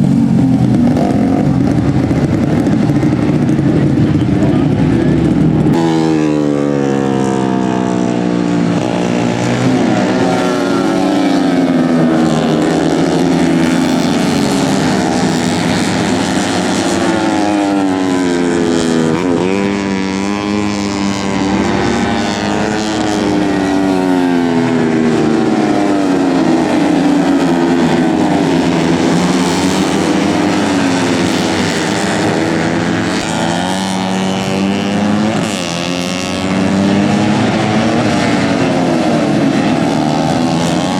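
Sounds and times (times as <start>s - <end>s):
racing motorcycles at high revs: 0.0s - 40.9s.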